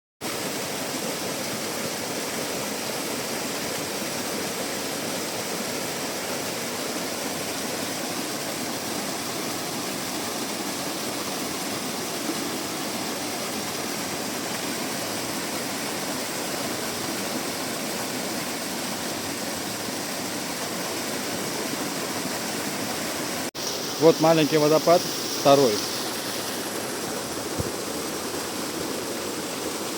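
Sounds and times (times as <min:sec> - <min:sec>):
small waterfall rushing: 0:00.2 - 0:29.9.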